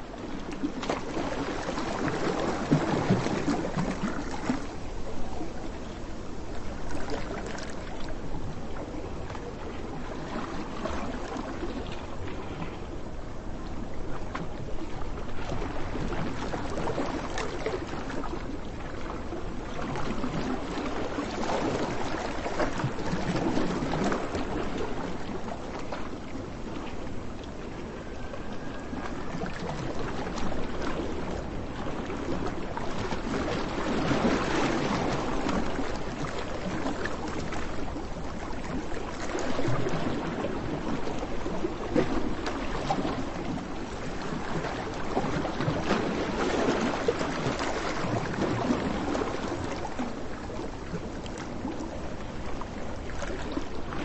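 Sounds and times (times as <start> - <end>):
waves washing onto beach: 0.0 - 54.0.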